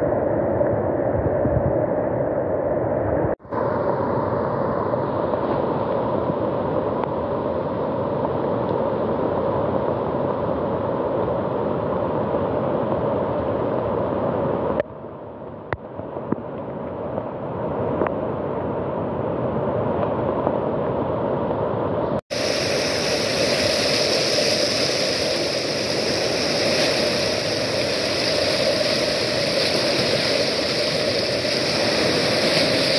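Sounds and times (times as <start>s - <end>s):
rushing river and waterfall: 1.0s - 32.9s.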